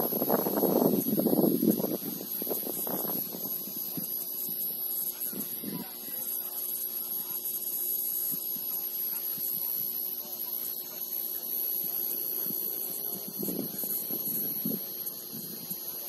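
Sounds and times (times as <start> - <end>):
electrical hum: 0.0 - 16.0
high-pitched whine: 0.0 - 16.0.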